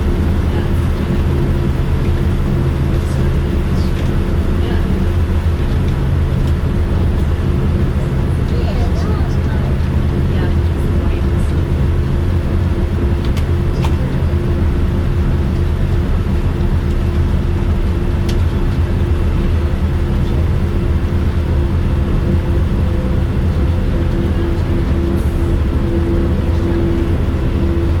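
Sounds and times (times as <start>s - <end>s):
airliner cabin engine rumble: 0.0s - 28.0s.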